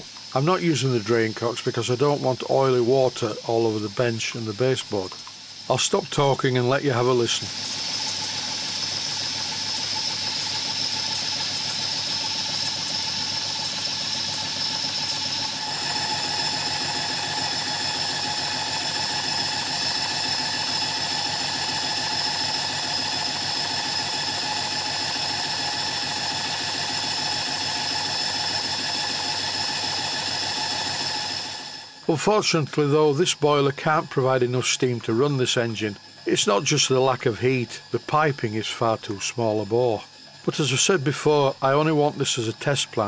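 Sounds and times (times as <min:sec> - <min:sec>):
model steam engine running: 0:00.0 - 0:43.0
steam hiss: 0:00.0 - 0:43.0.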